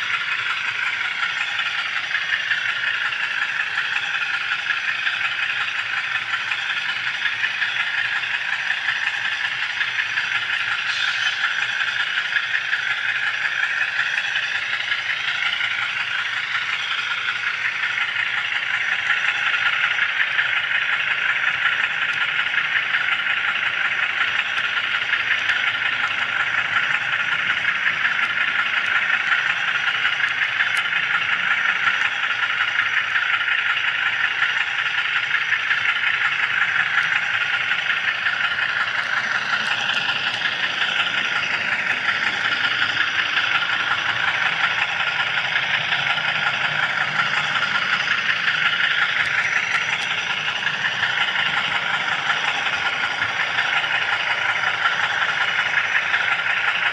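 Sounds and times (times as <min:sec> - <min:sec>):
model train rattling on track: 0:00.0 - 0:56.9.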